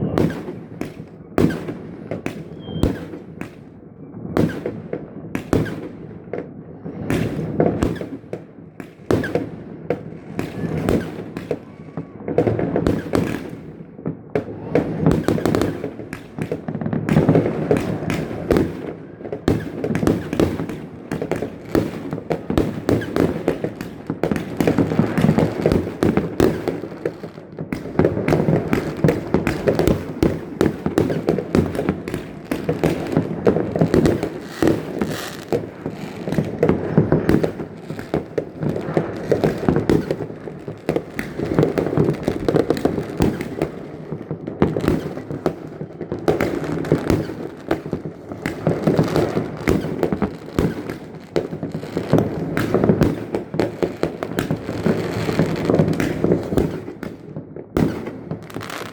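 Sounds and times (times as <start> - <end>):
fireworks crackling and banging: 0.0 - 58.9.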